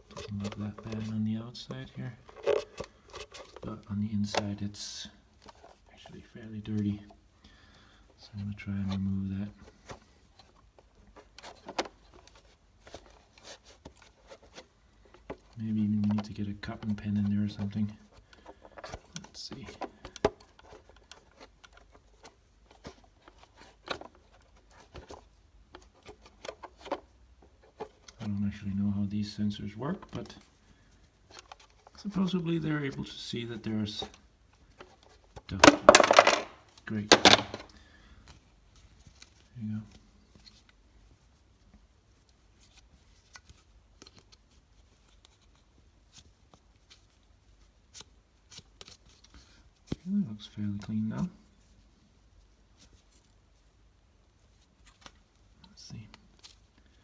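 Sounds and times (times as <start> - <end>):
faint plastic clicks and scratching: 0.0 - 57.0.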